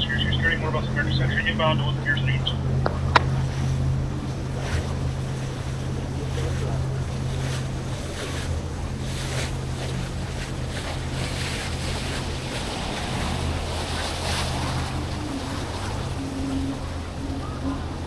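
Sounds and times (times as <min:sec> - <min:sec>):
lake waves: 0:00.0 - 0:18.0
steady low hum: 0:00.0 - 0:18.0.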